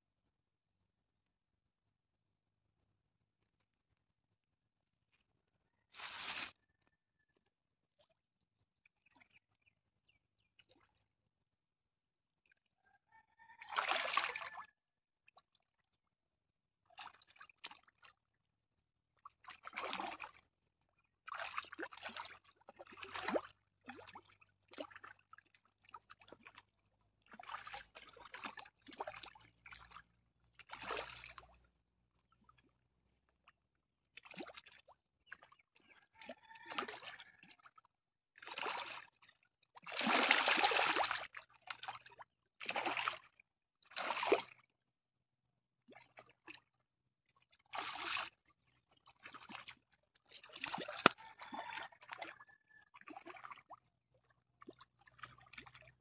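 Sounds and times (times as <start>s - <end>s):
water splashing and sloshing: 2.7s - 11.6s, 12.2s - 45.0s, 45.8s - 56.0s.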